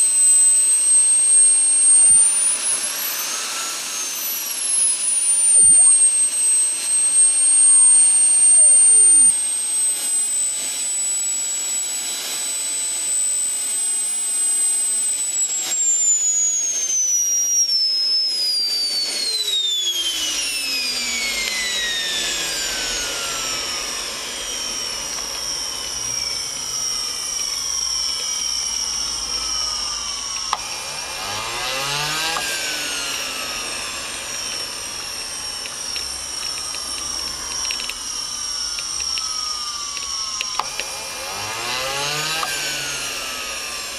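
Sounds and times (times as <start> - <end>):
turbine engine whine spooling down: 0.0 - 43.9.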